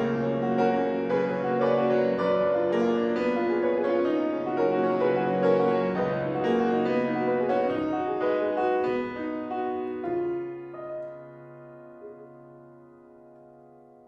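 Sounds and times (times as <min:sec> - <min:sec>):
piano playing chords: 0:00.0 - 0:14.0.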